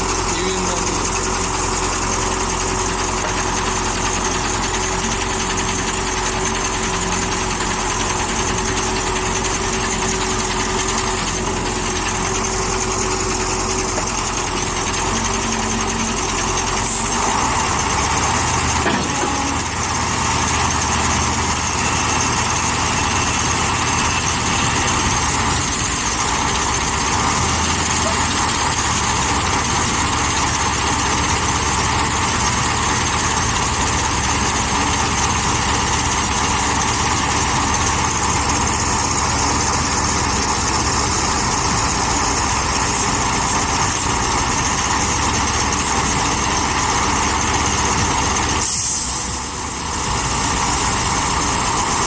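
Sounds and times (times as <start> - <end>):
heavy truck engine running: 0.0 - 52.0.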